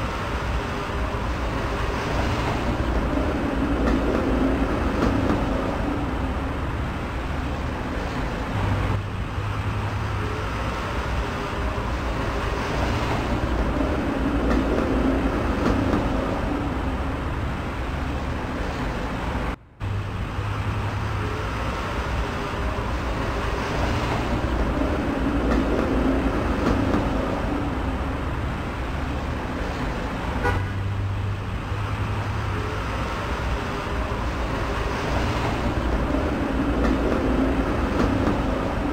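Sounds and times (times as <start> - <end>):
low engine hum: 0.0 - 38.9
road and tyre noise: 0.0 - 38.9.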